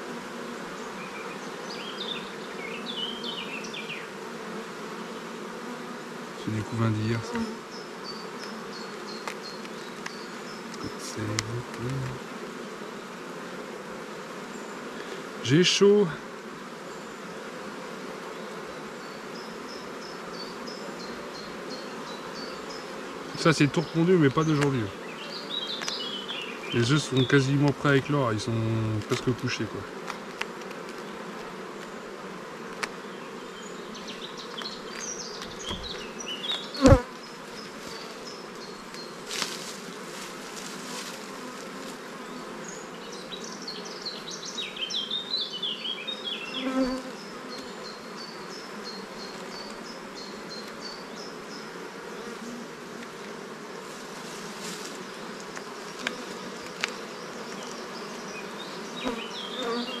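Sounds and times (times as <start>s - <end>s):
honeybees buzzing: 0.0s - 60.0s.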